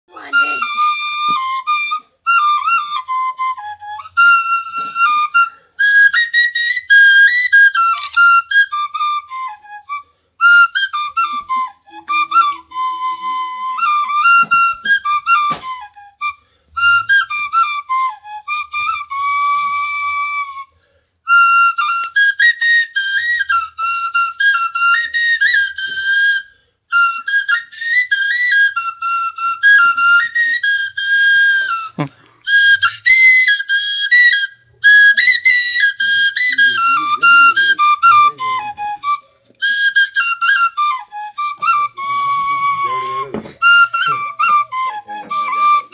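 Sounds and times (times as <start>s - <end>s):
bamboo flute folk melody: 0.1s - 45.9s.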